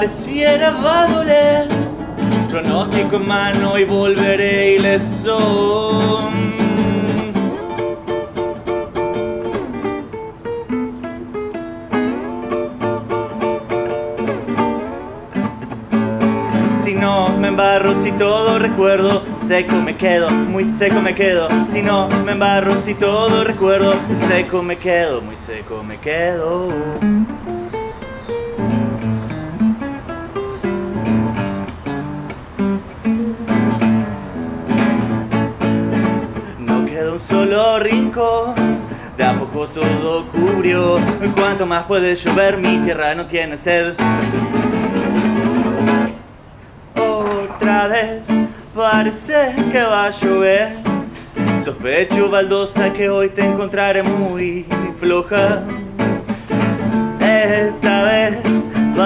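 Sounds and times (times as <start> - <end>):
acoustic guitar picking: 0.0 - 59.0.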